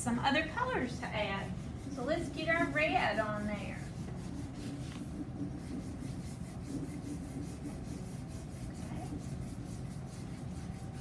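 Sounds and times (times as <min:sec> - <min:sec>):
crayon rubbing on paper: 0:00.7 - 0:11.0.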